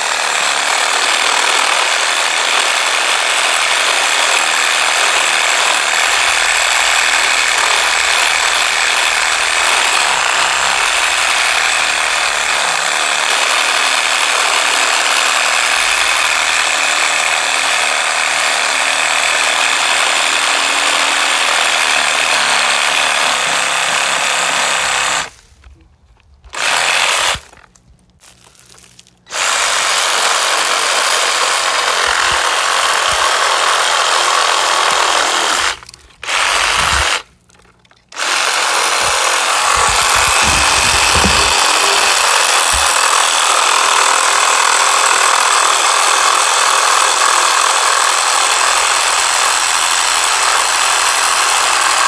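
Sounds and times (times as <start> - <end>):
reciprocating saw cutting wood: 0.0 - 25.5, 26.5 - 27.6, 29.3 - 52.0.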